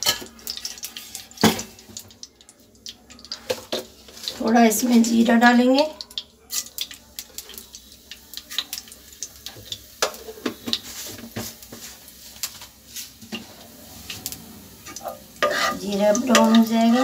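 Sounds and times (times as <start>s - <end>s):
faint sizzle: 0.0s - 17.0s
seeds popping in hot oil: 0.0s - 17.0s.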